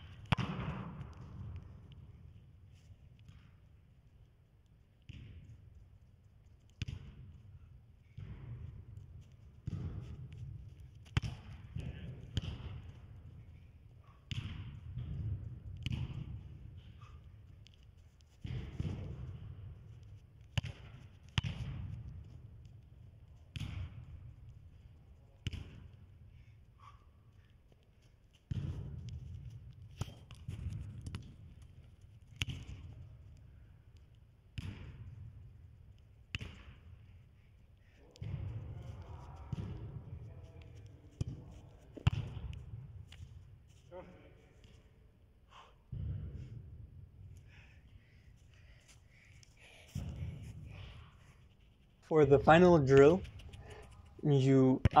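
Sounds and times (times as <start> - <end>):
ball kicks echoing in hall: 0.0 - 2.5, 6.6 - 26.2, 28.4 - 37.2, 37.8 - 43.5, 45.5 - 51.4, 52.2 - 55.0.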